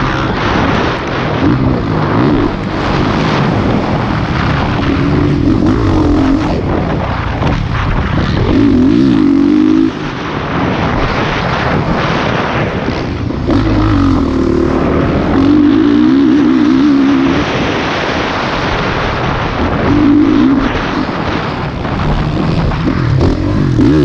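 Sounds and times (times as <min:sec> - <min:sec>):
dirt bike engine revving: 0:00.0 - 0:24.0
wind buffeting microphone: 0:00.0 - 0:24.0.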